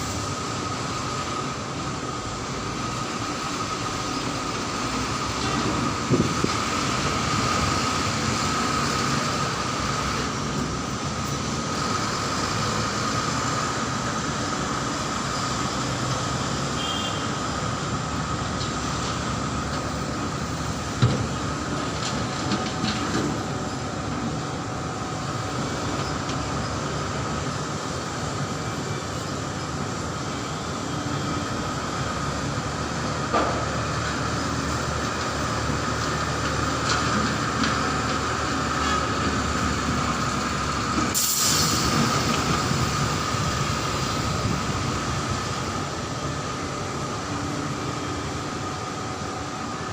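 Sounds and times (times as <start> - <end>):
dump truck engine drone: 0.0 - 49.9.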